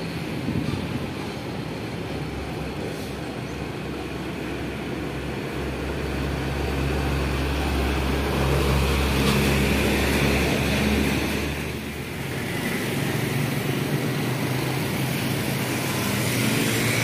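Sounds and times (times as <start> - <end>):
truck engine passing: 0.0 - 17.0.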